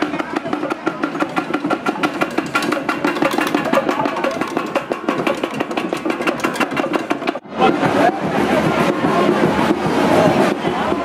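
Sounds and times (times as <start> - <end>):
drum ensemble playing fast: 0.0 - 11.0.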